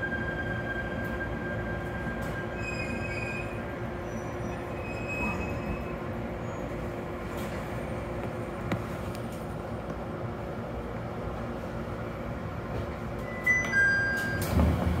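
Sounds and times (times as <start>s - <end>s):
train carriage running noise: 0.0s - 15.0s.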